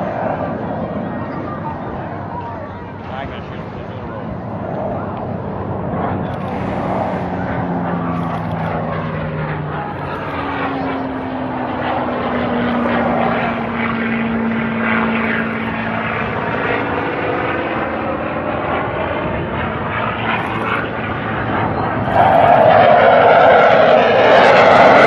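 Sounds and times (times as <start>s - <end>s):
propeller aircraft flying past: 0.0s - 25.0s.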